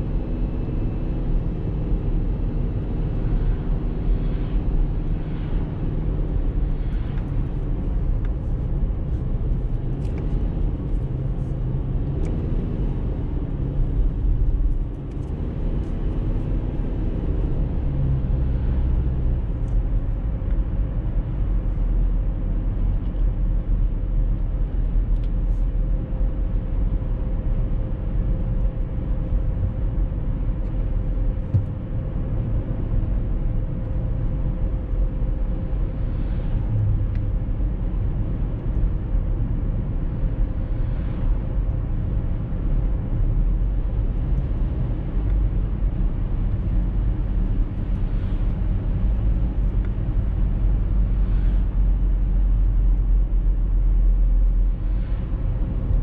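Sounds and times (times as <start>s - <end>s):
car tyres and engine rumbling: 0.0s - 56.0s.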